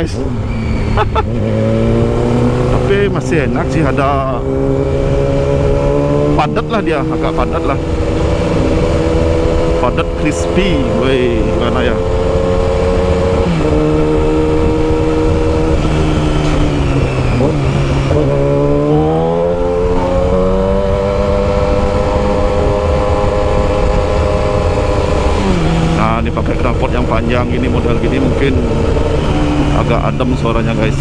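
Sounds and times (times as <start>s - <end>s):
motorcycle engine riding: 0.0s - 31.0s.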